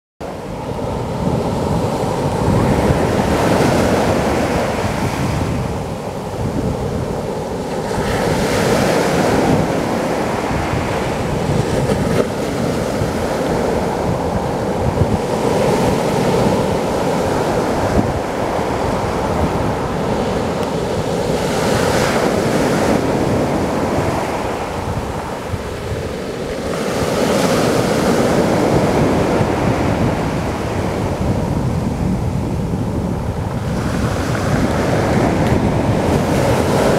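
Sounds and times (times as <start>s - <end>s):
wind buffeting microphone: 0.2s - 36.9s
waves breaking on pebble beach: 0.7s - 36.9s.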